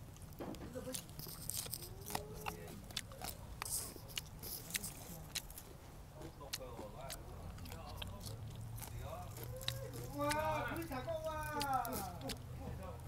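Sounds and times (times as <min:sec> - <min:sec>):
crisp leaf crunching: 0:00.2 - 0:12.5
wet mouth clicks: 0:00.8 - 0:12.6.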